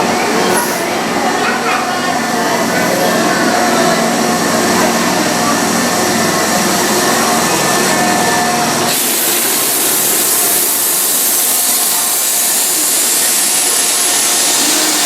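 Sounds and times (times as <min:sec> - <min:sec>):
train rushing hiss: 0:00.0 - 0:15.0.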